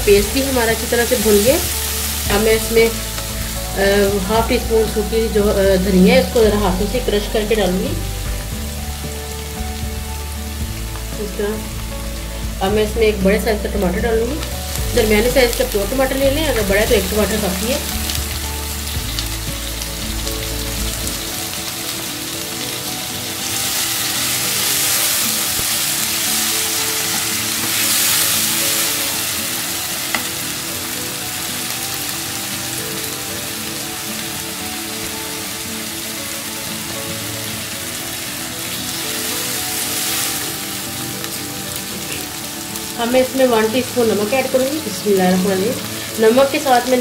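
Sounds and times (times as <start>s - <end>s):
onions and tomatoes sizzling in oil: 0.0s - 47.0s.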